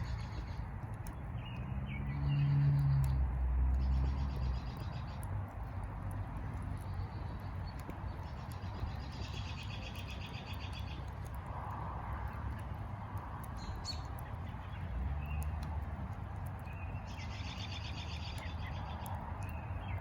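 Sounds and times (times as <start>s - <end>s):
birds chirping: 0.0s - 11.5s, 13.4s - 20.0s
wood fire crackling: 0.0s - 20.0s.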